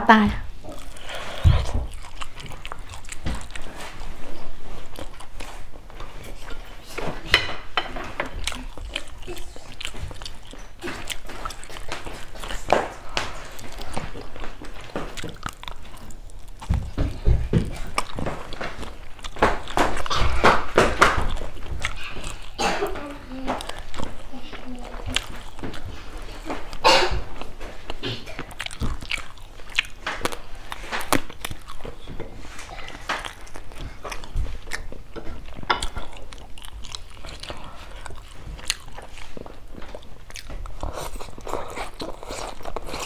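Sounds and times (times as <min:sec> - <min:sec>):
biting and chewing: 0:00.6 - 0:43.0.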